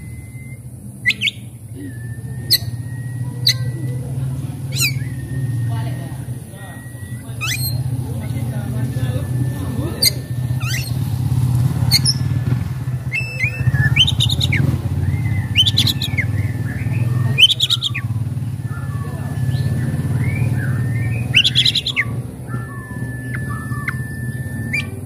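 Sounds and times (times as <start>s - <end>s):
bird chattering and whistling: 0.0s - 25.0s
steady low motor hum: 0.0s - 25.0s.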